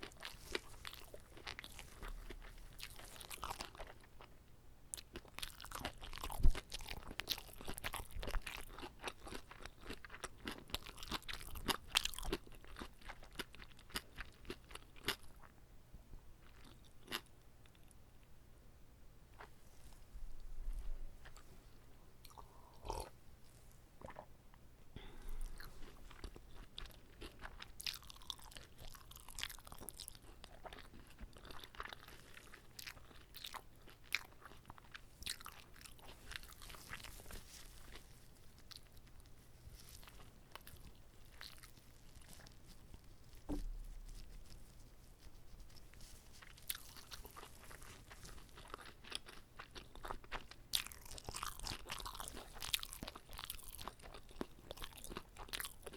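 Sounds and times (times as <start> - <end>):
crunchy chewing and biting: 0.0 - 4.2, 5.0 - 15.5, 16.4 - 18.0, 22.2 - 23.2, 25.0 - 55.9.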